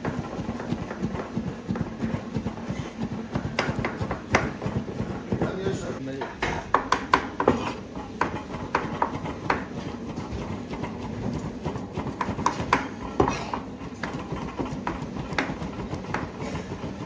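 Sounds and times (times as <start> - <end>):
knife chopping on wooden board: 0.0 - 17.0.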